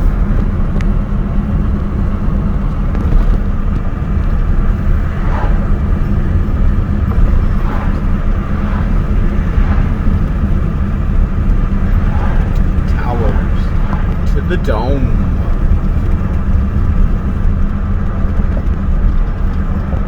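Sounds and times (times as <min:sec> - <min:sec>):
moving car rumble: 0:00.0 - 0:20.0.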